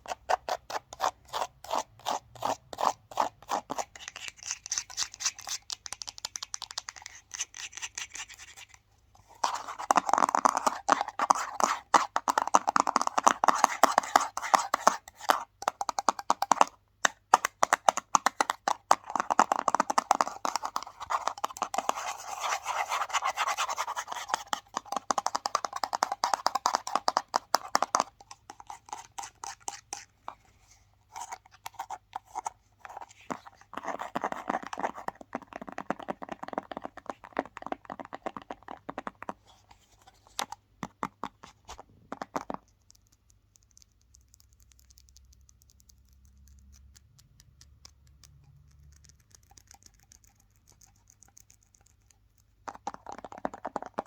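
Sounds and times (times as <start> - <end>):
fast scratching and tapping: 0.0 - 30.4, 31.1 - 54.0.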